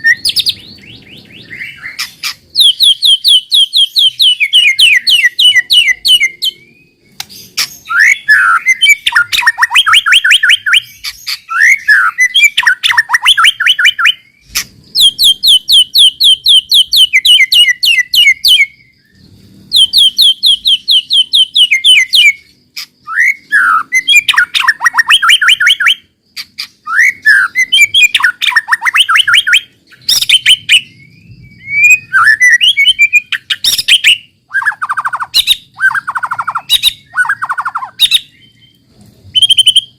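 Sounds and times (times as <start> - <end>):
bird singing rapid sharp notes: 0.0 - 39.9.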